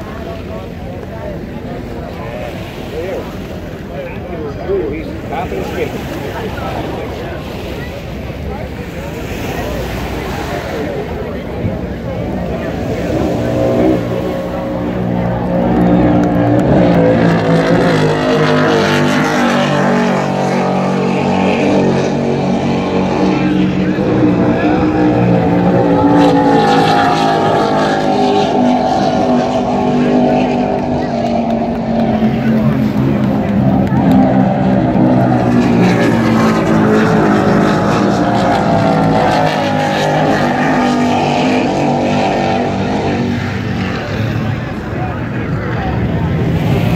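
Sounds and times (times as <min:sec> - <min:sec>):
racing boat engines droning: 0:00.0 - 0:46.9.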